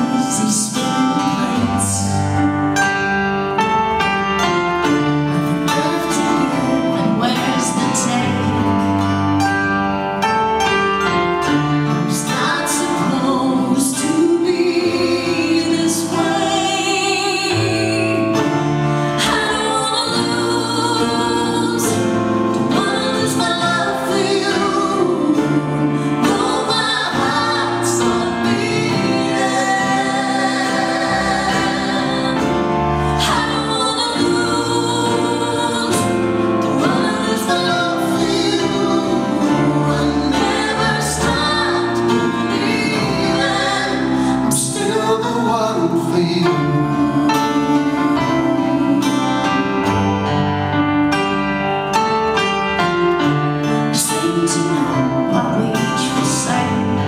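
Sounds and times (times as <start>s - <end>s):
woman singing: 0.0s - 2.4s, 5.6s - 9.0s, 12.1s - 49.7s, 54.0s - 57.0s
acoustic guitar: 0.0s - 57.0s
mandolin: 0.0s - 57.0s
stage piano: 0.0s - 57.0s.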